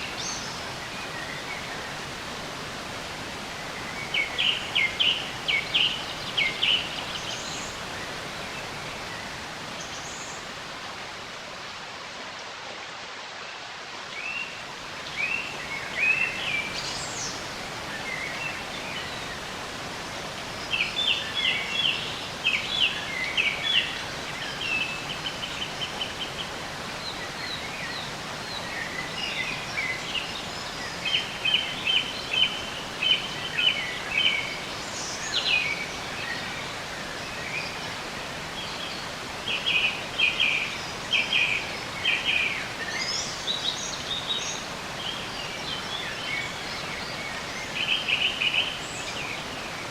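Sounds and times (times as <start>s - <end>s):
songbirds singing: 0.0s - 11.6s, 14.0s - 49.9s
outdoor background hiss: 0.0s - 49.9s.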